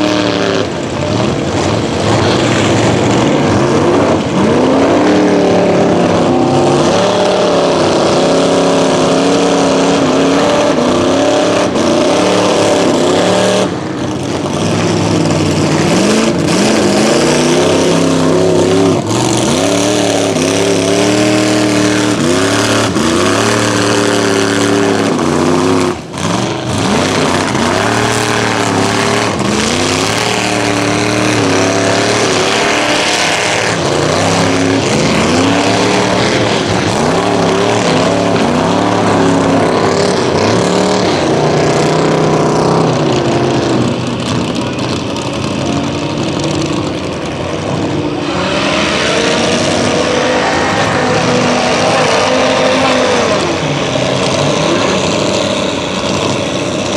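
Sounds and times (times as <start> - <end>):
truck engine revving hard: 0.0 - 56.9.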